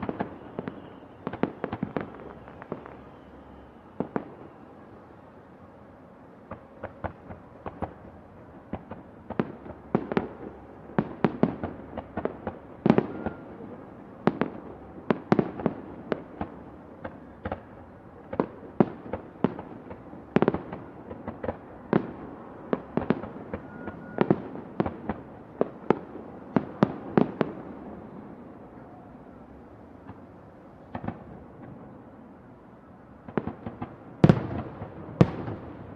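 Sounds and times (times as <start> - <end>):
fireworks sharp bangs: 0.0 - 4.9, 8.6 - 28.8, 30.0 - 32.0, 33.2 - 35.9
distant fireworks bangs and crackle: 0.0 - 35.9.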